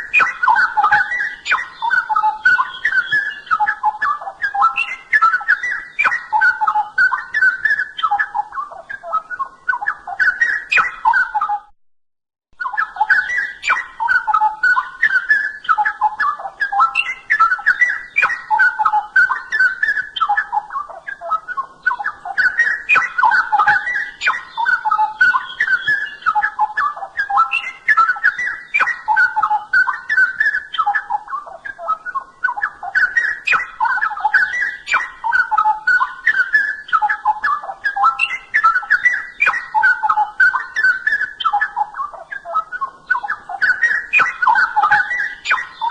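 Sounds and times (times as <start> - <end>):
bird singing bubbling warble: 0.0 - 11.7, 12.6 - 45.9.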